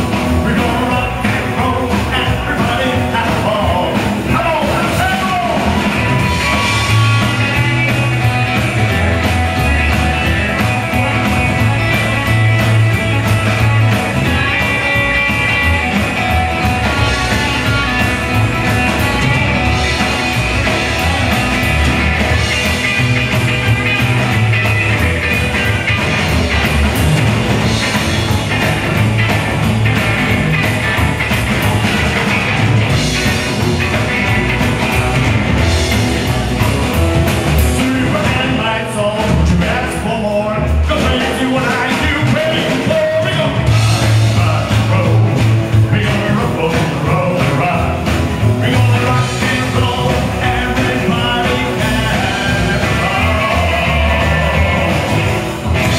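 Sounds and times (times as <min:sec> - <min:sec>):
live rock and roll band: 0:00.0 - 0:55.9.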